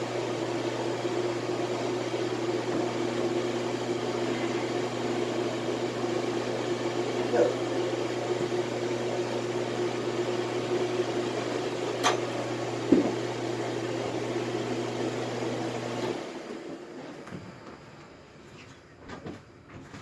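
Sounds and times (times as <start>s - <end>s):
electric fan motor humming: 0.0s - 18.5s.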